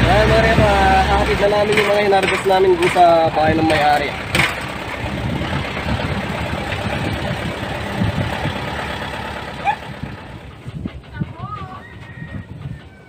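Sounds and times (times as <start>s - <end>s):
truck engine rumble: 0.0s - 13.0s
vehicle body rattle: 0.0s - 13.0s.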